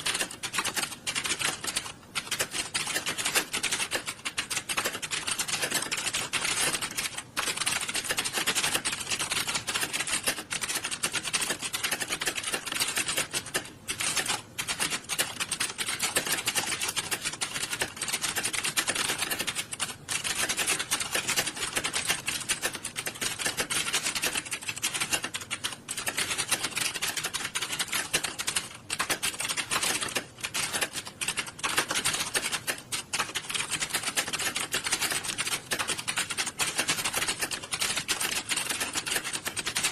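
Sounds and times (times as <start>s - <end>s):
many keyboards typing fast: 0.0s - 39.9s.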